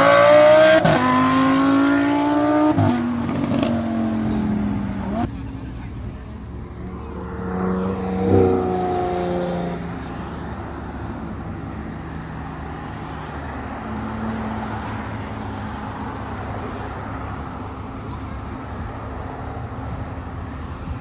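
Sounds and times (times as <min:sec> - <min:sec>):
passing traffic: 0:00.0 - 0:21.0.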